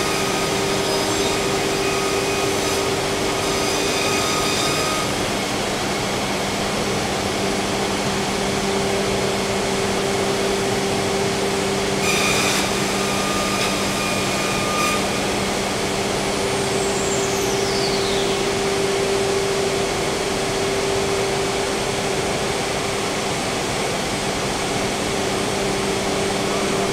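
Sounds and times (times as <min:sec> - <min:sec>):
cnc router running: 0:00.0 - 0:26.9.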